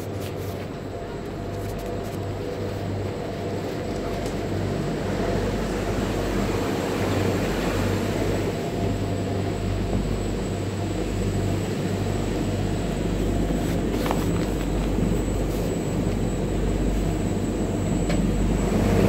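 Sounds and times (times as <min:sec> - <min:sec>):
boat engines droning: 0:00.0 - 0:19.0.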